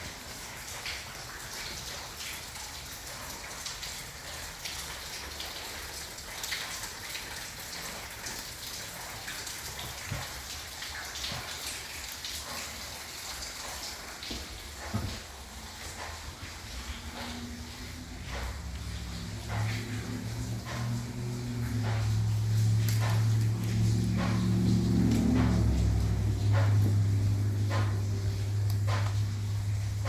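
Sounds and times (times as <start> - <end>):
rain falling steadily: 0.0 - 30.0.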